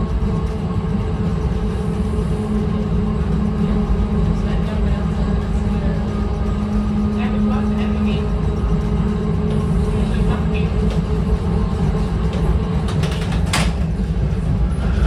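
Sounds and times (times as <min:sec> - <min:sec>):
streetcar rumbling on track: 0:00.0 - 0:15.0.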